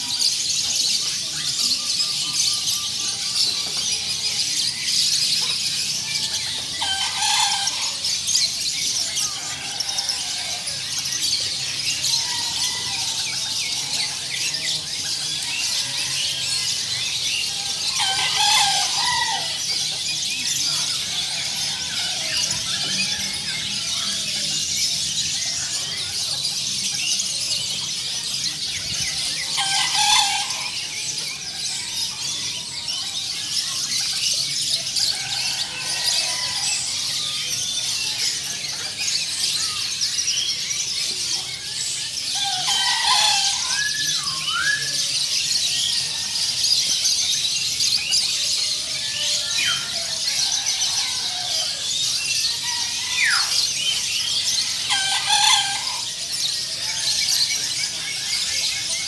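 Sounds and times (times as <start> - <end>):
songbirds chattering: 0.0 - 59.0.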